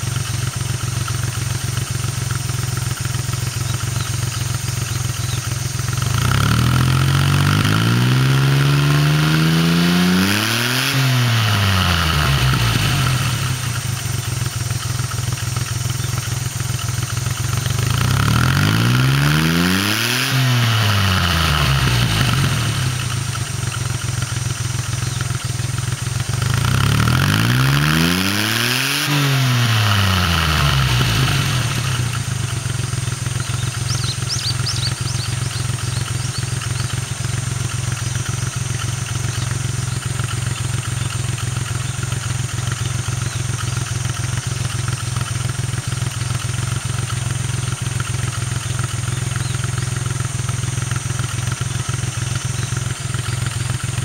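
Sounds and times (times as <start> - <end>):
truck engine revving and idling: 0.0 - 54.0.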